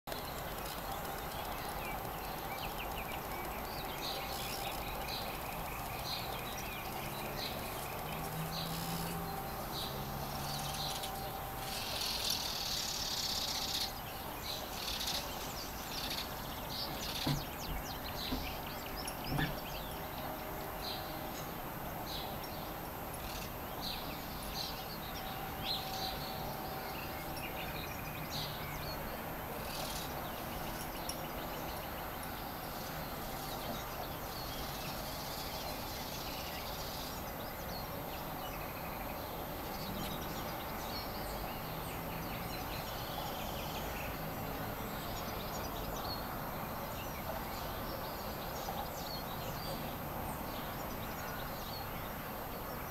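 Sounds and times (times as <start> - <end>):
outdoor background noise: 0.0 - 52.9
songbirds singing and chirping: 0.1 - 52.9.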